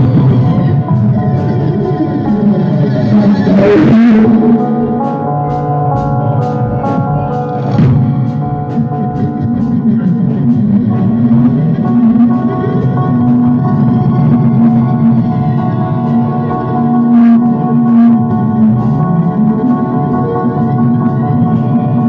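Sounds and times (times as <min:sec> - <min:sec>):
cymbals keeping a beat: 0:00.0 - 0:22.0
rock band playing: 0:00.0 - 0:22.0.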